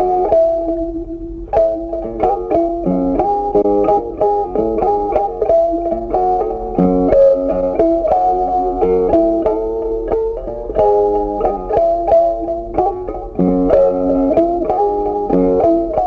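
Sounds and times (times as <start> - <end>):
plucked guitar melody: 0.0 - 16.0.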